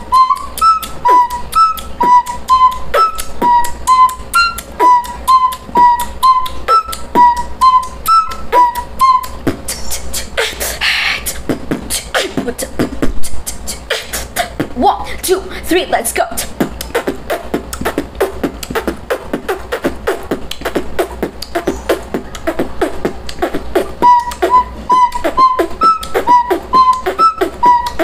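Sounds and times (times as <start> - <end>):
recorder playing riff: 0.0 - 14.6, 16.4 - 28.0
mouth beatboxing: 0.0 - 28.0.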